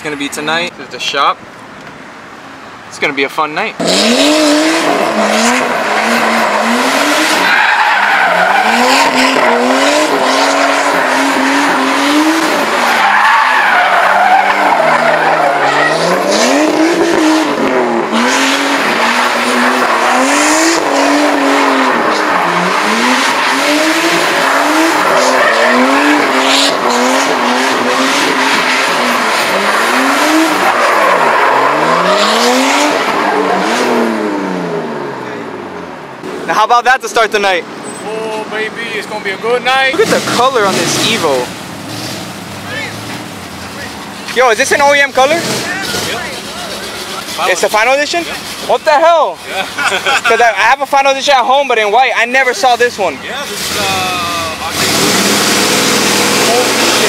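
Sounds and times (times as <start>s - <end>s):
car engine revving: 3.7s - 51.6s, 52.4s - 57.0s
tyres squealing: 4.9s - 34.0s, 36.5s - 57.0s.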